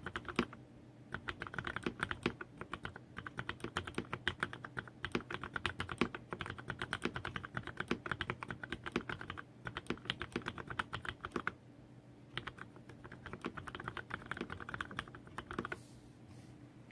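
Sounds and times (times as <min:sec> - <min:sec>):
mechanical keyboard typing: 0:00.0 - 0:11.6, 0:12.3 - 0:15.8.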